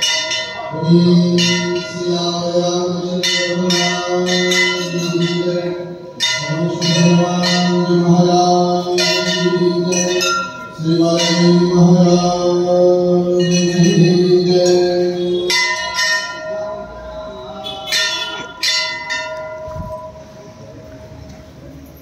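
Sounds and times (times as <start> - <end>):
temple bells ringing: 0.0 - 21.0.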